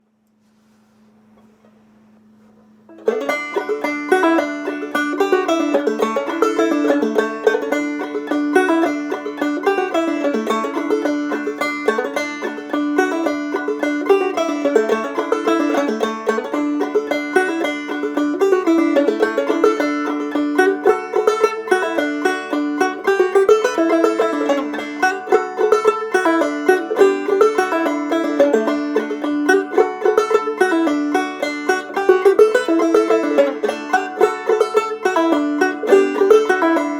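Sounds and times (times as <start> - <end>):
banjo playing old-time tune: 2.9 - 36.9.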